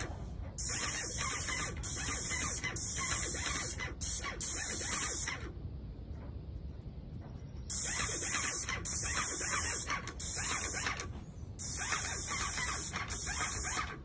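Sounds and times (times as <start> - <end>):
paint spray gun hissing: 0.0 - 5.5, 7.7 - 14.0.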